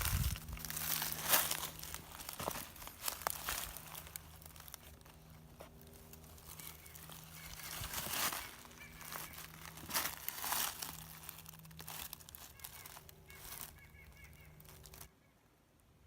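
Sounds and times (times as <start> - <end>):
footsteps crunching dry leaves: 0.0 - 15.1
leaves rustling: 0.0 - 15.1.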